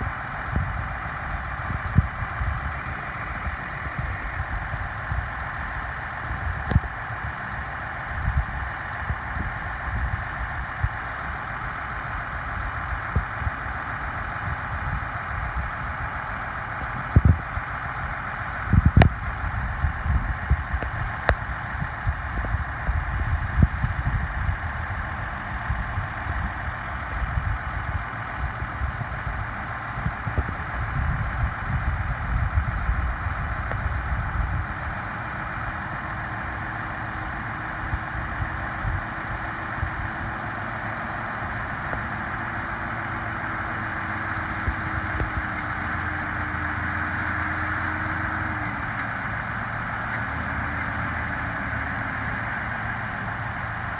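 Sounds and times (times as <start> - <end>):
heavy machinery engine rumbling: 0.0 - 53.9.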